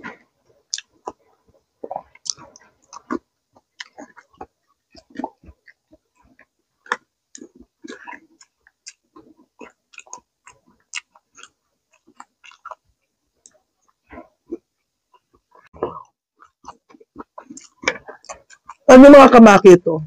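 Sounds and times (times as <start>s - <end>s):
person chewing crunchy food: 0.0s - 18.9s
mouth smacks and wet clicks: 0.1s - 1.2s, 1.8s - 18.9s.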